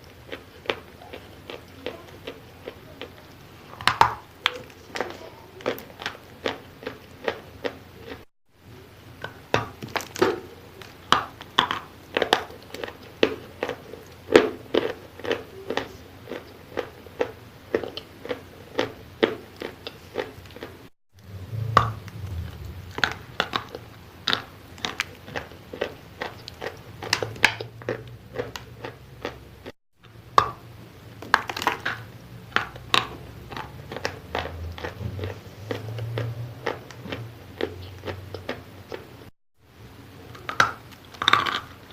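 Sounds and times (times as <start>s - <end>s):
crunching and chewing of chalk: 0.0s - 8.3s, 9.2s - 39.3s, 40.1s - 41.9s.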